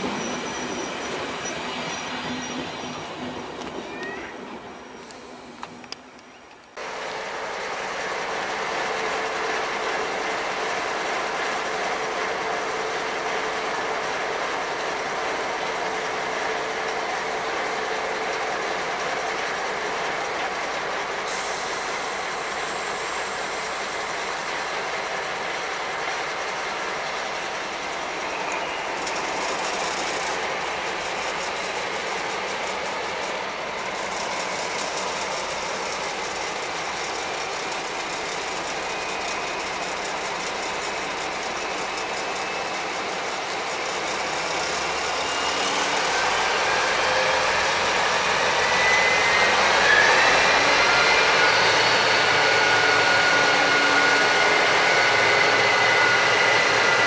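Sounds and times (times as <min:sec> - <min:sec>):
diesel locomotive engines running: 0:00.0 - 0:57.0.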